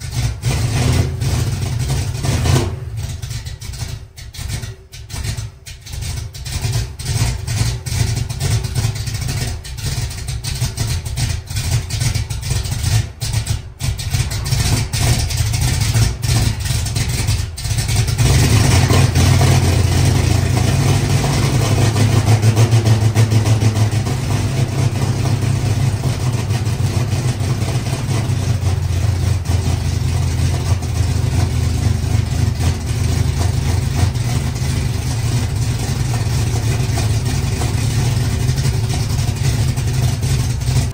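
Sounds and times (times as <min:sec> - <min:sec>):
car engine running unevenly: 0:00.0 - 0:40.9.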